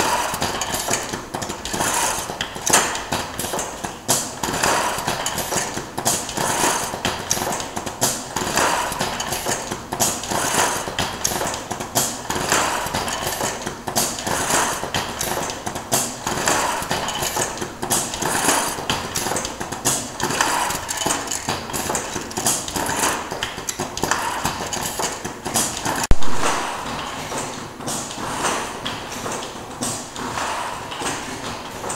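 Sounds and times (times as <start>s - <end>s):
wood machine clattering: 0.0s - 31.9s.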